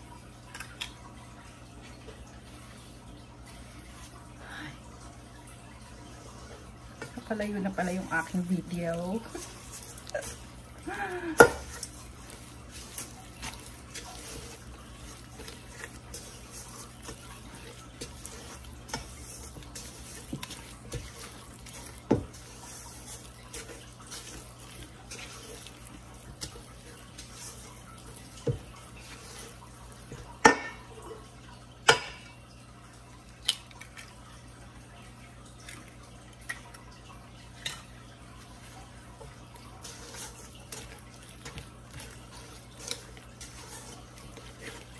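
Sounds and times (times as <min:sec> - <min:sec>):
spatula stirring wet batter: 0:01.8 - 0:04.7, 0:05.3 - 0:31.3, 0:35.5 - 0:44.9.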